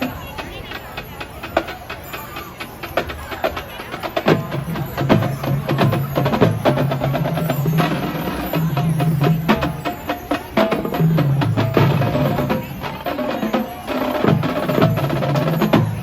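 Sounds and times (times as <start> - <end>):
marching band low held notes: 0.0 - 16.0
sharp percussion clicks: 0.0 - 16.0.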